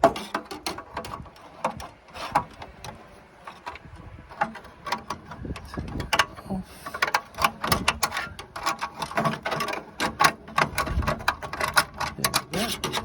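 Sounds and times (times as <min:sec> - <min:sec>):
metallic clicks and rattles: 0:00.0 - 0:13.0.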